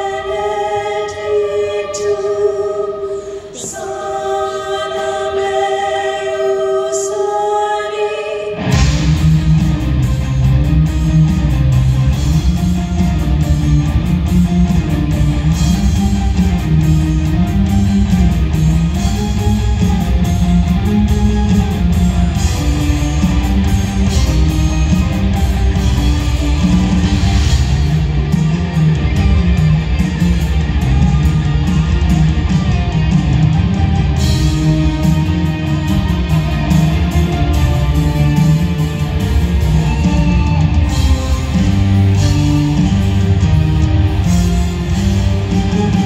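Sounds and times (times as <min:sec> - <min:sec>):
live symphonic rock music: 0:00.0 - 0:46.0
electric guitar: 0:08.4 - 0:46.0.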